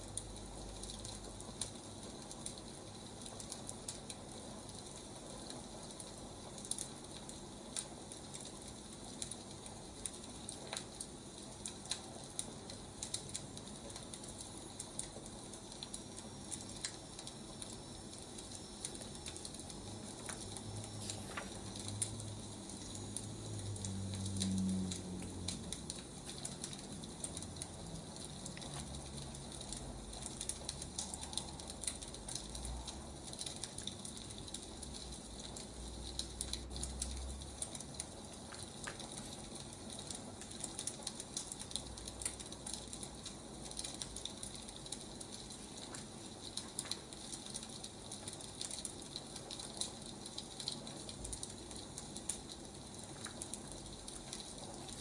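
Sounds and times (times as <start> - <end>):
soft hiss: 0.0 - 49.2
firewood crackling and popping: 0.0 - 55.0.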